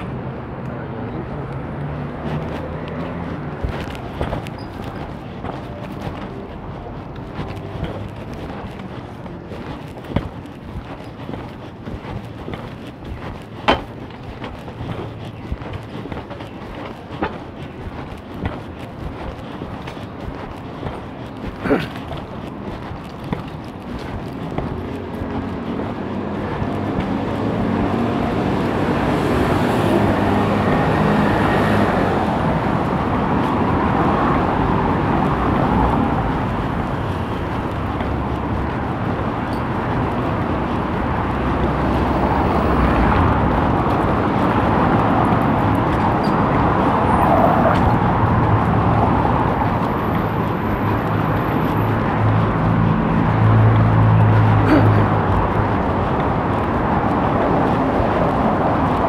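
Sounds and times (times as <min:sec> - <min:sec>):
street traffic passing: 0:00.0 - 0:59.0.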